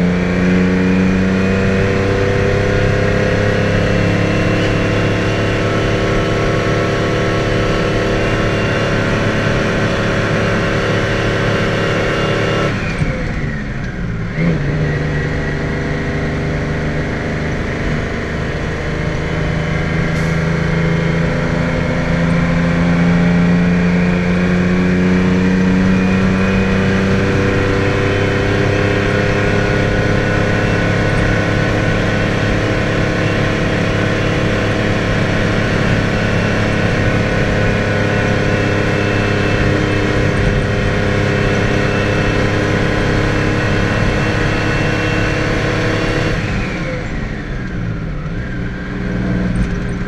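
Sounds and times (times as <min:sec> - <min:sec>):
diesel truck engine pulling hard: 0:00.0 - 0:50.0.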